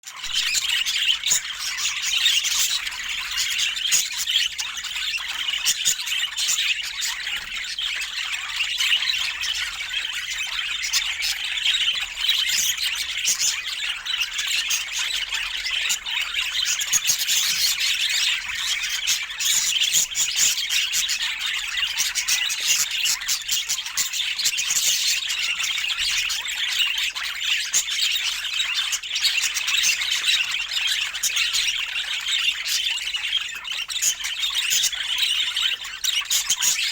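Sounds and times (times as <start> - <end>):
budgerigars chattering: 0.1 - 36.9.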